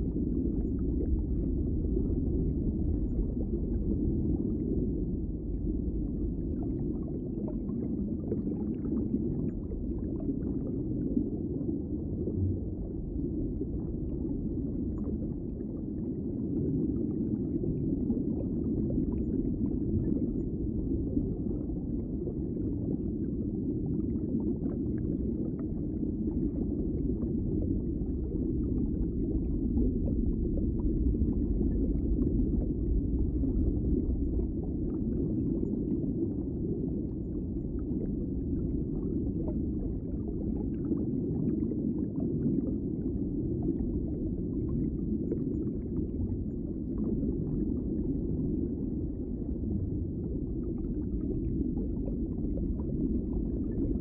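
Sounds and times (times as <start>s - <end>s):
muffled underwater rush: 0.0s - 54.0s.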